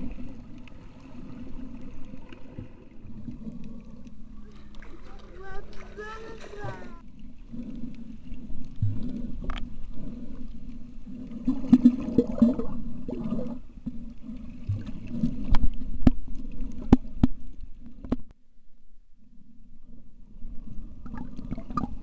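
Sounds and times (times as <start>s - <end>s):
underwater water rumble: 0.0s - 22.0s.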